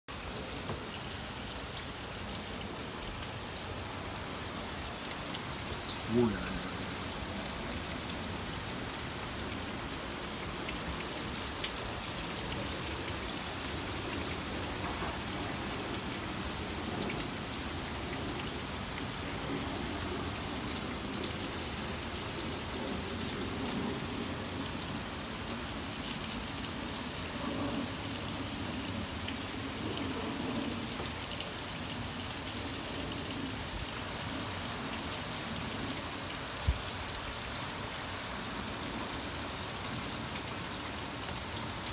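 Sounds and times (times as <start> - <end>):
heavy rain on pavement and cars: 0.1 - 41.9.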